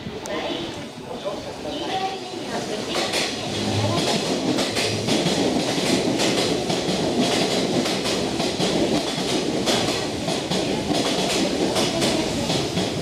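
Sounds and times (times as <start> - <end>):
train wheels clacking on rails: 1.8 - 13.0.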